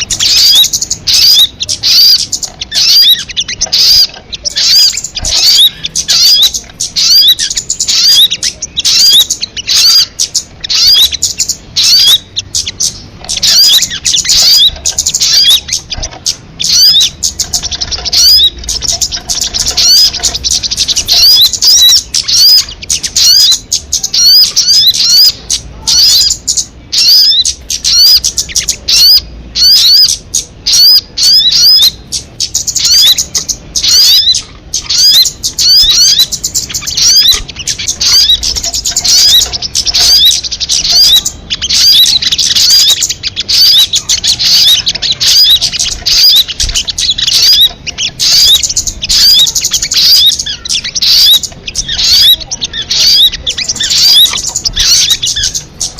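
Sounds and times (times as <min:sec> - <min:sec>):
bird chirping rapidly: 0:00.0 - 0:55.9.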